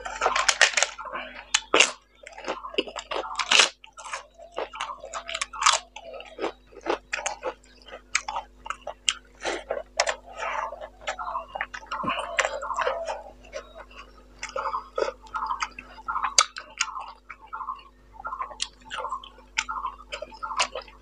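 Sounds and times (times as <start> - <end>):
chewing and crunching: 0.0 - 21.0.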